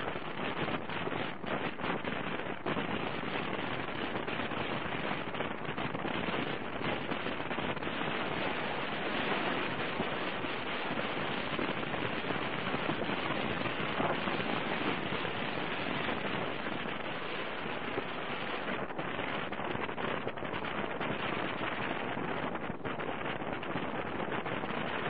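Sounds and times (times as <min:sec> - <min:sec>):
rain crackling on microphone: 0:00.0 - 0:25.0.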